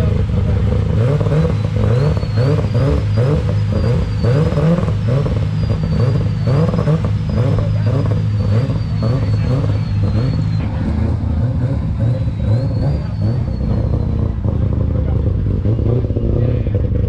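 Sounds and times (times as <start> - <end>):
car engine throttle blips: 0.0 - 17.0.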